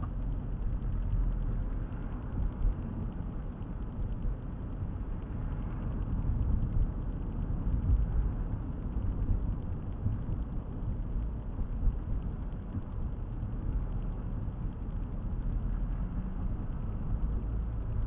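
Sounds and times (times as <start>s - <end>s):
car interior engine and road rumble: 0.0s - 18.0s.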